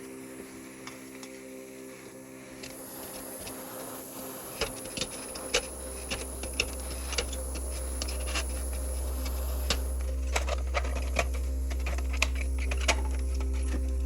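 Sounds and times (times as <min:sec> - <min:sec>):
faint steady tone: 0:00.0 - 0:14.0
low steady hum: 0:00.0 - 0:14.0.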